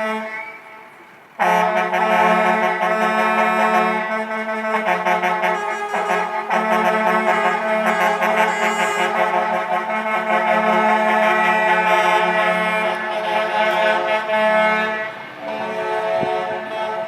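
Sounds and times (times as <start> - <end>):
truck air horns blaring: 0.0 - 17.0.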